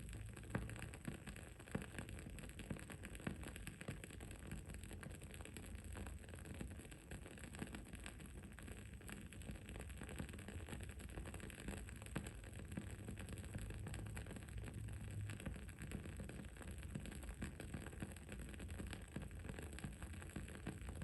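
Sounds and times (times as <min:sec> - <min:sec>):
faint low rumble and hiss: 0:00.0 - 0:21.0.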